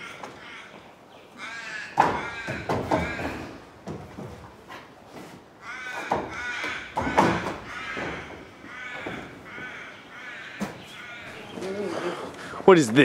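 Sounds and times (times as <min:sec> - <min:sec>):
crow cawing: 0:00.0 - 0:03.7, 0:05.6 - 0:12.6.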